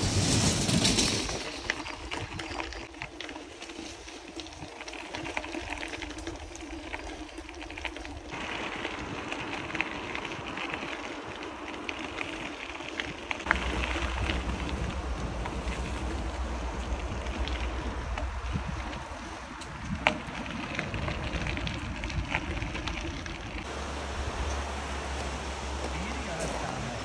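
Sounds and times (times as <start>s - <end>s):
wind rumble on microphone: 0.0s - 3.0s, 3.8s - 27.0s
bike clicks and rattles: 0.0s - 23.7s
bicycle tyres on dirt: 0.0s - 27.0s.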